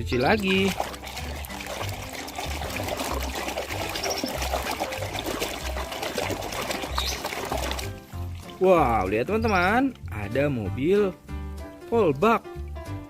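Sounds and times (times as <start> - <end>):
water pouring and trickling: 0.0 - 11.1.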